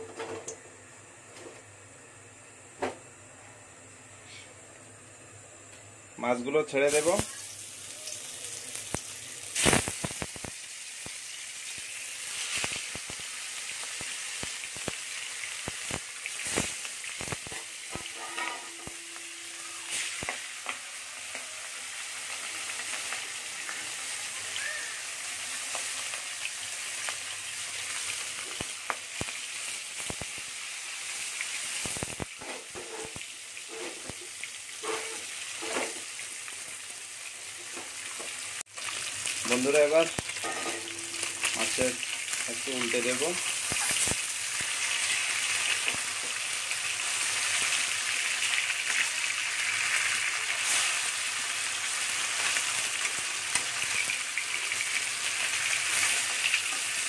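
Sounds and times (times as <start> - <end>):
fish sizzling in hot oil: 6.8 - 57.0.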